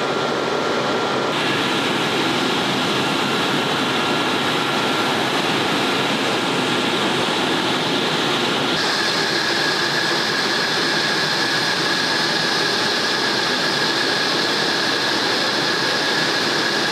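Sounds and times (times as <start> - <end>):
jet turbine whining: 0.0 - 16.9.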